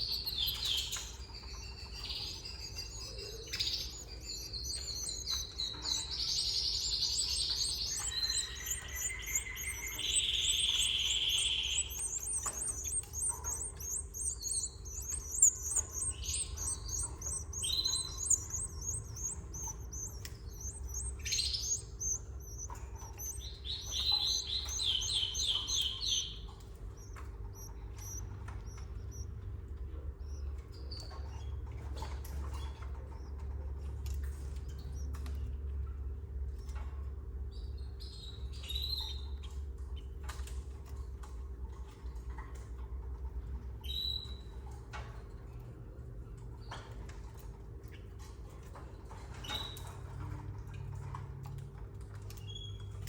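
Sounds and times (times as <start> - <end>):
canaries chirping: 0.0 - 35.2, 37.5 - 45.1, 46.5 - 51.2
small scratching clicks: 0.0 - 37.4, 39.0 - 53.0
steady low hum: 0.0 - 49.1.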